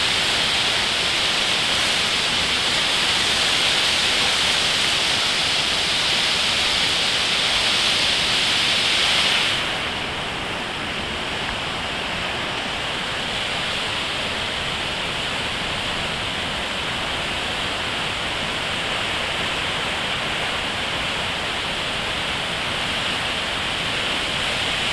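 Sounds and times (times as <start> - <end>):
river rushing in rapids: 0.0 - 24.9.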